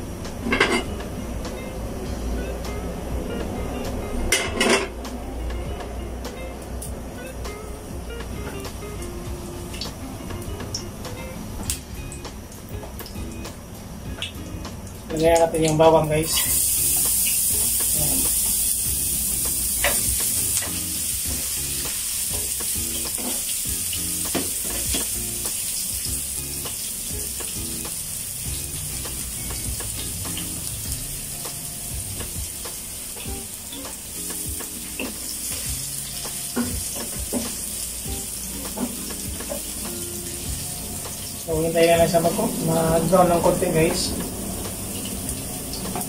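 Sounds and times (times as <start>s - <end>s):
garlic sizzling in oil: 7.2s - 46.0s.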